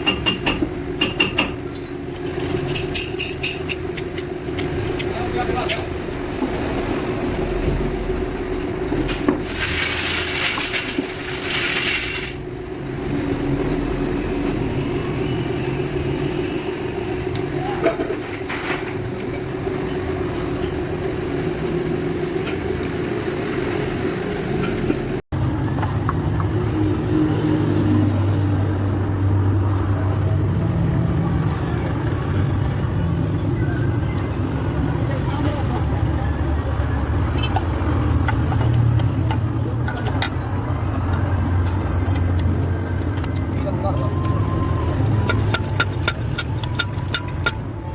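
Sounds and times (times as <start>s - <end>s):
clutch bearing whine: 0.1s - 28.0s, 29.0s - 47.9s.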